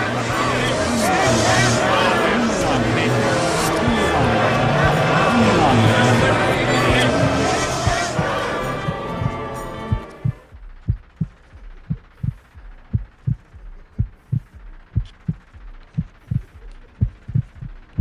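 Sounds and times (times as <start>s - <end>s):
music: 0.0s - 18.0s
slow heartbeat thumps: 0.0s - 18.0s.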